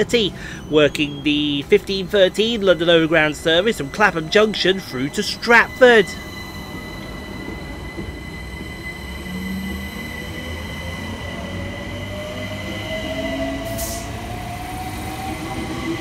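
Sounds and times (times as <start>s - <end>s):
electric train motor whine: 1.6s - 16.0s.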